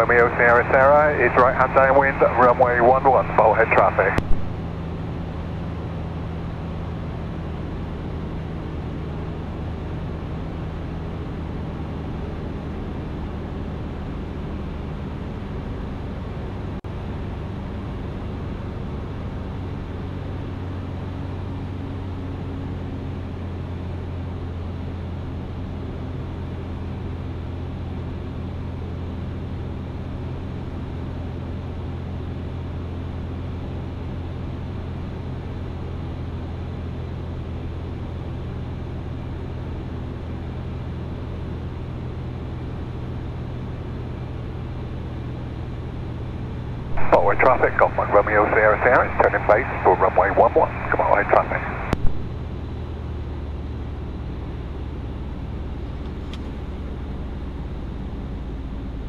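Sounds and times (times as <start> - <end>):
microlight engine and propeller drone: 0.0 - 59.0.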